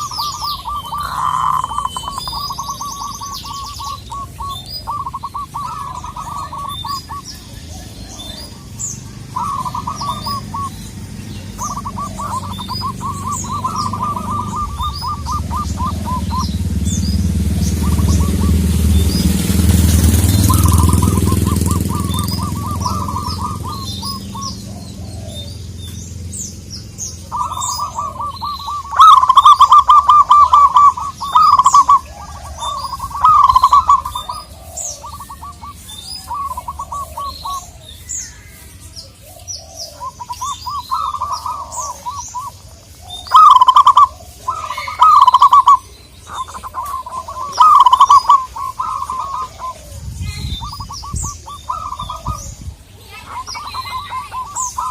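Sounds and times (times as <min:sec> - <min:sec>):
dove cooing: 0:00.0 - 0:54.9
small birds chirping: 0:00.0 - 0:54.9.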